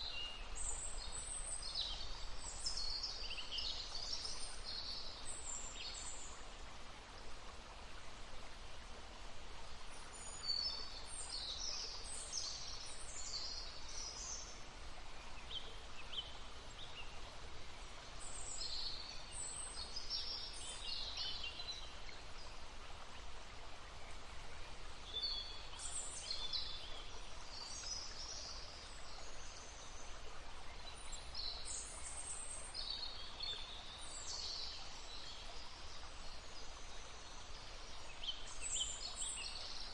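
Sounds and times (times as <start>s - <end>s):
brook babbling: 0.0s - 39.9s
songbirds chirping: 0.0s - 39.9s.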